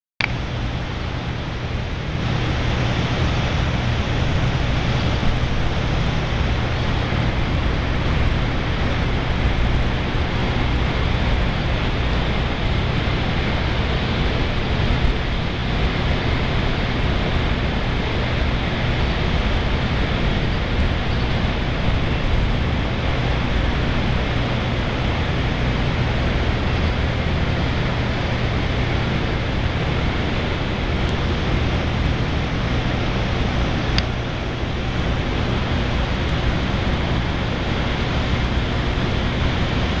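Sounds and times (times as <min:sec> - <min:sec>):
city rushing noise: 0:00.2 - 0:40.0
low hum: 0:00.2 - 0:40.0.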